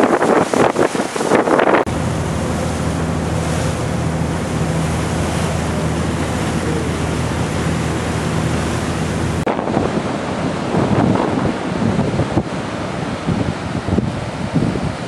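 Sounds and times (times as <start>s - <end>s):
wind and water noise: 0.0s - 15.0s
ferry engine low hum: 1.6s - 15.0s.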